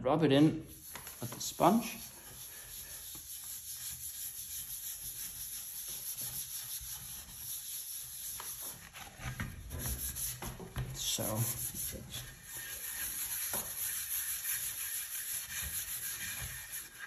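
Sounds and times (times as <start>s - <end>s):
sponge rubbing on wooden board: 0.7s - 17.0s.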